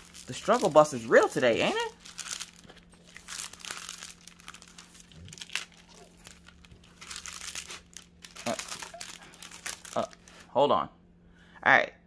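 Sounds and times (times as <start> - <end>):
plastic film crinkling: 0.0 - 10.5.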